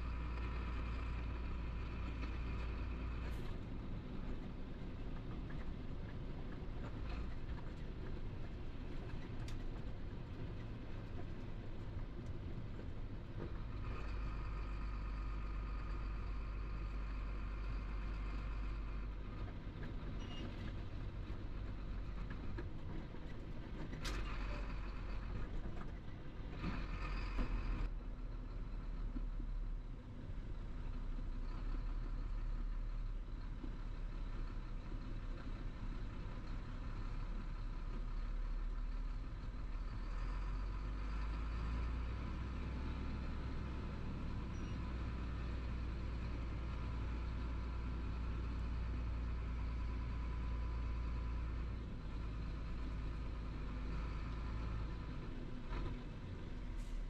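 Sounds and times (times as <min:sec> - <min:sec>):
diesel truck engine running: 0:00.0 - 0:57.0
road noise: 0:00.0 - 0:57.0.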